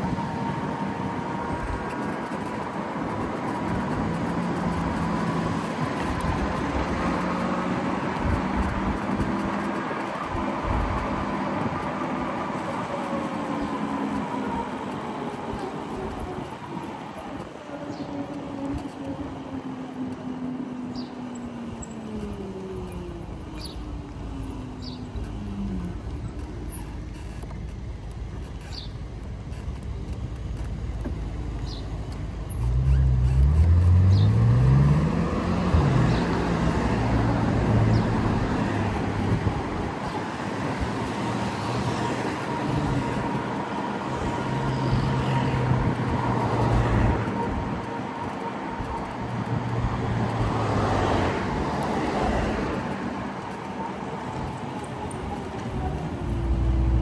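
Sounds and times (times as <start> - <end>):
rumble of road and traffic: 0.0 - 57.0.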